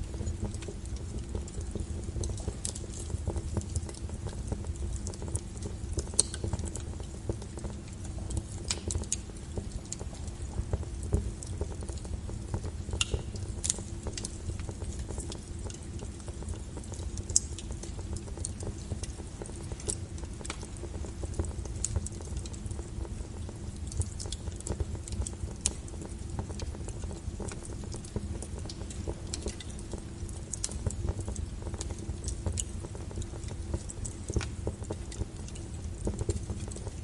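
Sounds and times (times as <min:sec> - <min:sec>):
low rumble of flames: 0:00.0 - 0:37.0
sharp pops and snaps: 0:00.0 - 0:37.0
wood fire crackling: 0:00.0 - 0:37.0.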